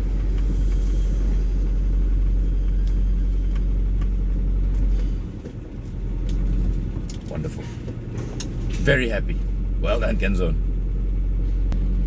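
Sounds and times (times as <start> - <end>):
car engine rumble in cabin: 0.0 - 12.0.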